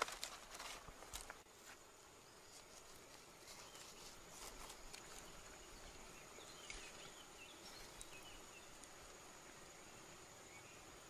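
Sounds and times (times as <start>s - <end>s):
faint chirps: 1.9s - 11.0s.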